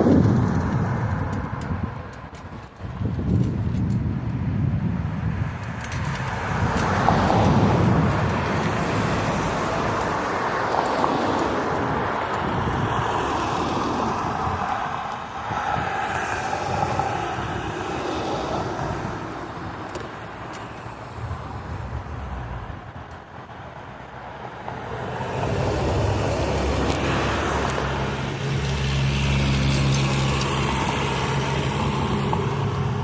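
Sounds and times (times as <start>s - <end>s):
motor vehicle running: 0.0s - 33.0s.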